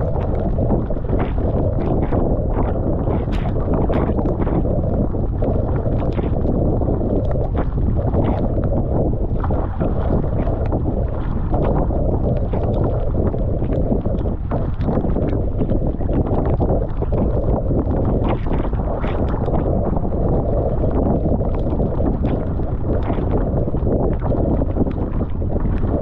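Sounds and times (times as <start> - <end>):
water rushing along hull: 0.0 - 26.0
wind buffeting microphone: 0.0 - 26.0.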